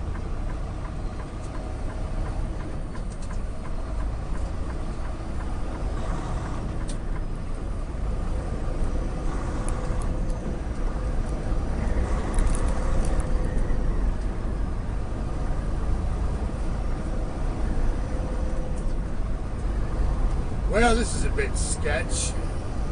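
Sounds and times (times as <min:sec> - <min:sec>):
truck engine and road drone: 0:00.0 - 0:22.9.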